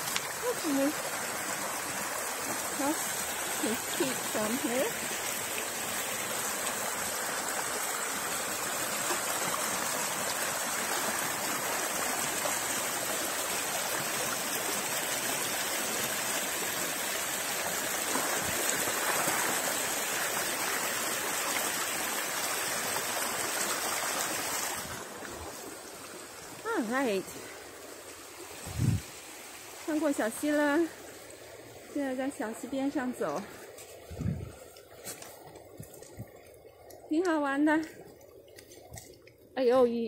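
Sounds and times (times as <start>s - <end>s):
creek flowing over stones: 0.0s - 40.0s.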